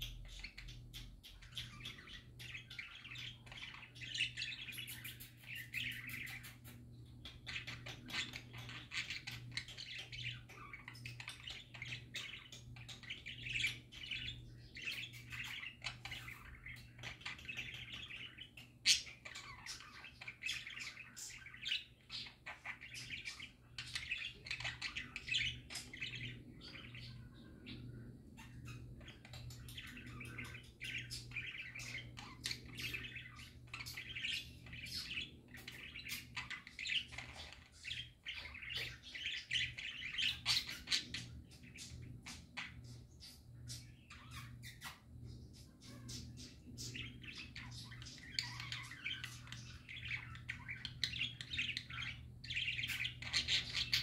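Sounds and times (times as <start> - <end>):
budgerigars warbling and chattering: 0.0 - 54.0.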